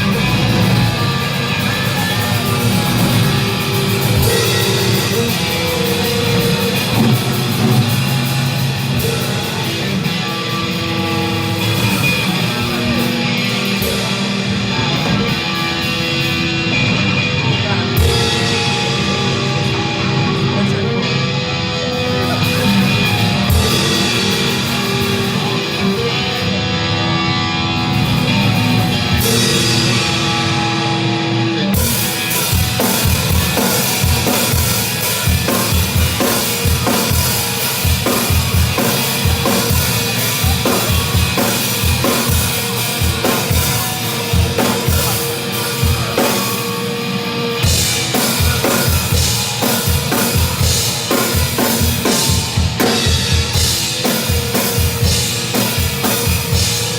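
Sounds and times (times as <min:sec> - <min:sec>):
drum kit playing: 0:00.0 - 0:56.9
heavy metal music: 0:00.0 - 0:56.9.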